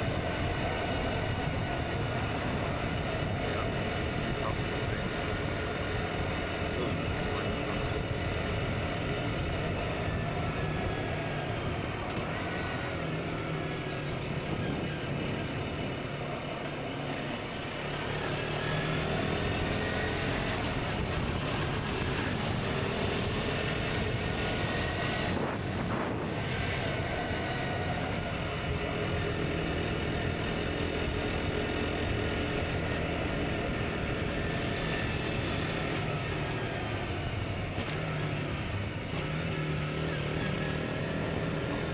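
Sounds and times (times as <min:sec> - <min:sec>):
motorcycle engine through the gears: 0:00.0 - 0:41.9.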